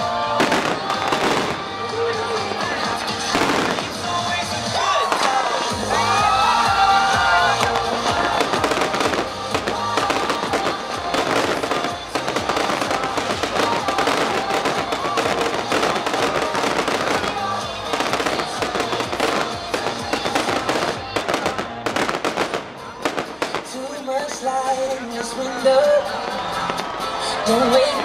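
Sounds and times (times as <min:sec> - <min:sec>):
fireworks crackling and popping: 0:00.0 - 0:28.0
music playing: 0:00.0 - 0:28.0.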